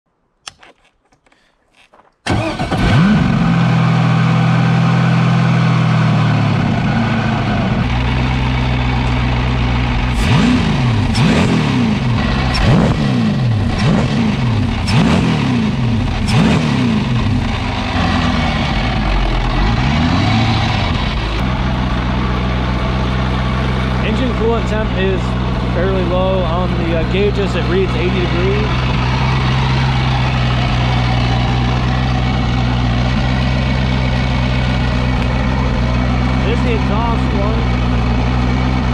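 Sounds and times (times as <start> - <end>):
engine idling and revving: 2.3 - 38.9.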